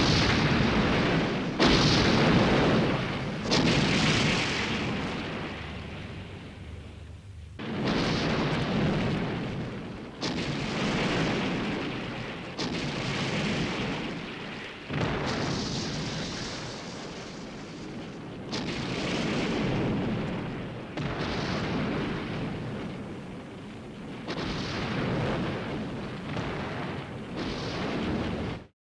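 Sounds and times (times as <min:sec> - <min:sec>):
explosion blasts with rumble: 0:00.0 - 0:28.7.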